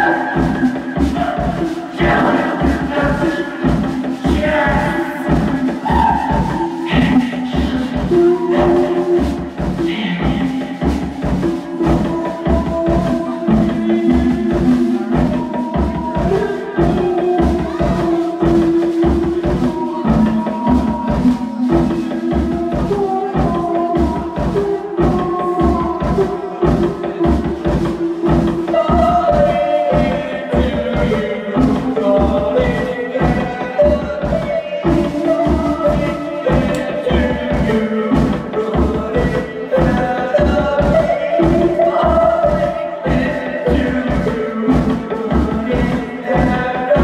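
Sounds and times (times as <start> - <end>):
drum beat: 0.0 - 47.0.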